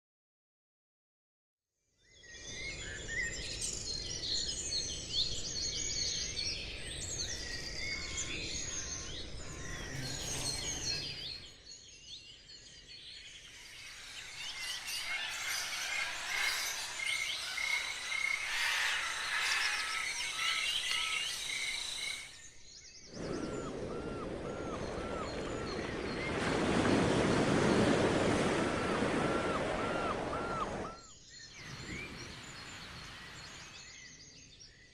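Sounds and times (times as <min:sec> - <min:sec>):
birds chirping and singing: 0:02.2 - 0:27.8, 0:28.5 - 0:34.9.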